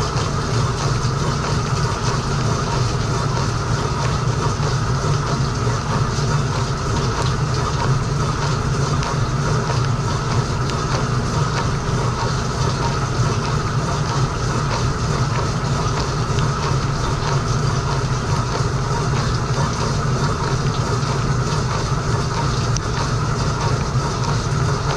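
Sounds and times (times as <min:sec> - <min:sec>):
dishwasher pump hum: 0:00.0 - 0:24.9.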